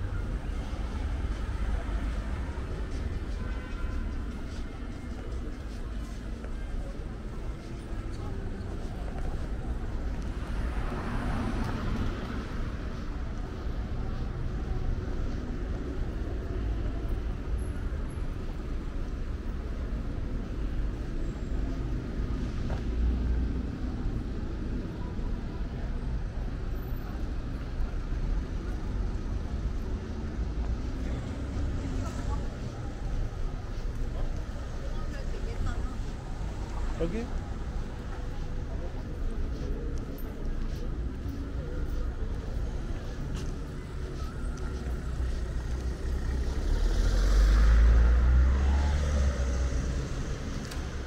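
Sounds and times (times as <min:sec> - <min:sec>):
traffic rumble: 0:00.0 - 0:51.0.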